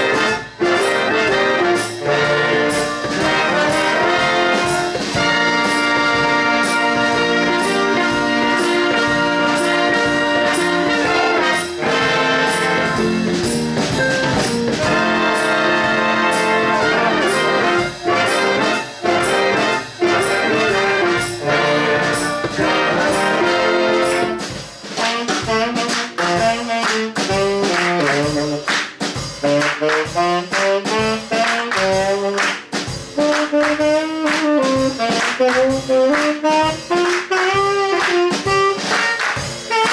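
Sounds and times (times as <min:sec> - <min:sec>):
big band brass chords: 0:00.0 - 0:39.9.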